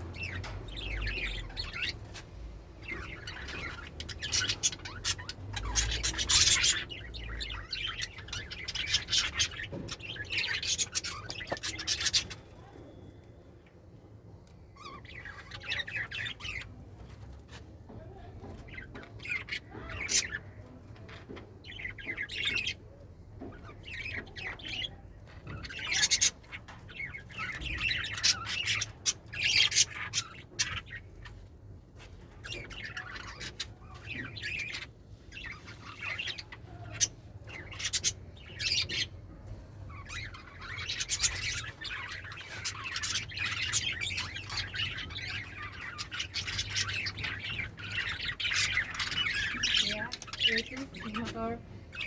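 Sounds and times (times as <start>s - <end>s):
budgerigars chirping and chattering: 0.0s - 52.0s.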